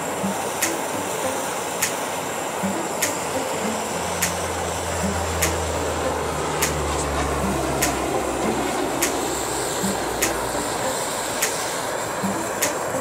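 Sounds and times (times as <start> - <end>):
background music with beat and bass: 0.0 - 13.0
gas torches hissing: 0.0 - 13.0.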